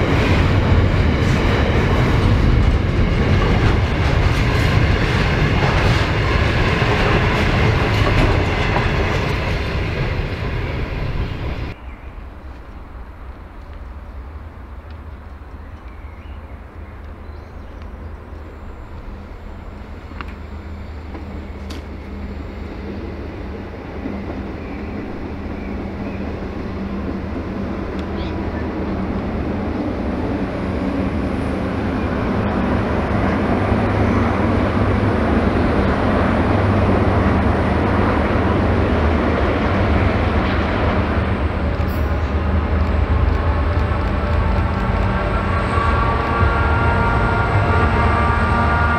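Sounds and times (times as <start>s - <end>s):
locomotive engine hum: 0.0s - 48.9s
train wheels on rails: 0.0s - 48.9s.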